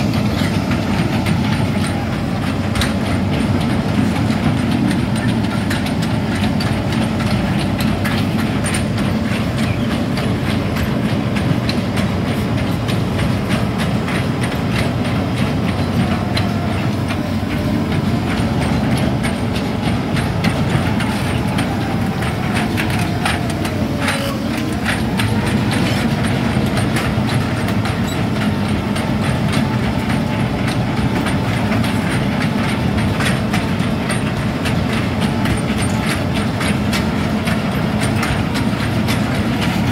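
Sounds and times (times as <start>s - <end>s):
diesel engine running: 0.0s - 39.9s
track chains rattling and clanking: 0.0s - 39.9s.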